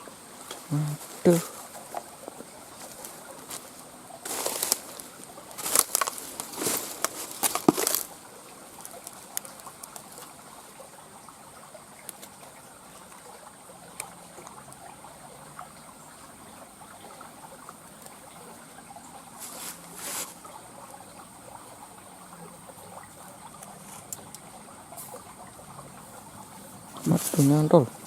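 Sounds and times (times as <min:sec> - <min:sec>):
water splashing: 0:00.0 - 0:28.0
light water ticks: 0:00.4 - 0:28.0.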